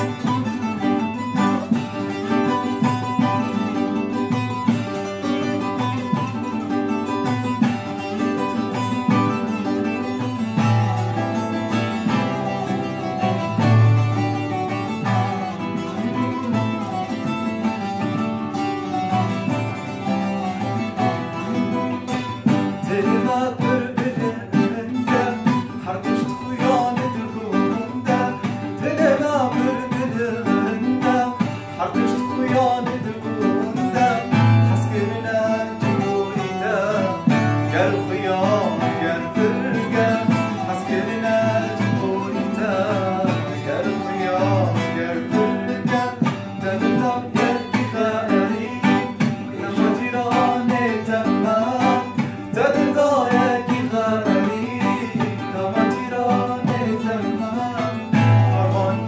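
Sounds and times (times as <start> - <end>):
man singing: 0.0 - 59.0
plucked long-necked lute: 0.0 - 59.0
strummed acoustic guitar: 0.0 - 59.0.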